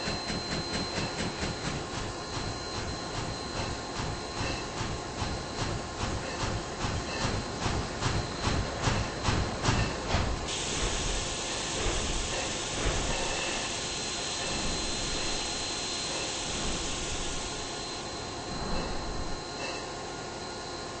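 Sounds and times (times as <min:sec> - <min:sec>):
steam train rhythmic beats: 0:00.0 - 0:18.1
steam hissing: 0:00.0 - 0:19.4.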